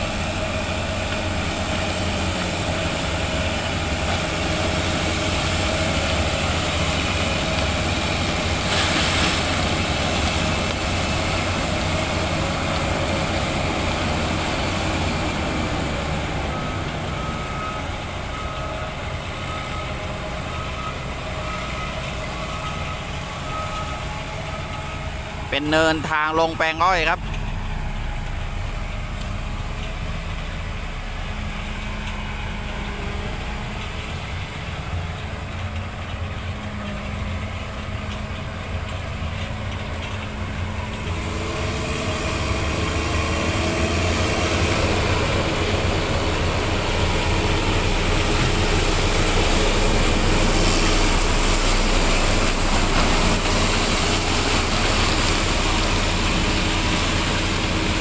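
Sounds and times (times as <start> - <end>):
heavy vehicle engine humming: 0.0 - 58.0.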